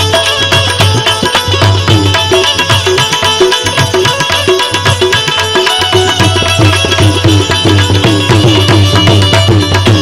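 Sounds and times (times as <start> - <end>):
fast hand drum rhythm: 0.0 - 10.0
held melody instrument notes: 0.0 - 10.0.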